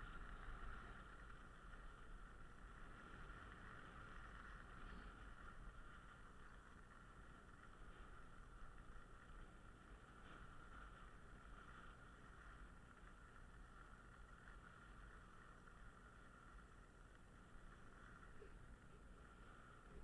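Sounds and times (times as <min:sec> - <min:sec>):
skis sliding on snow: 0:00.0 - 0:20.0.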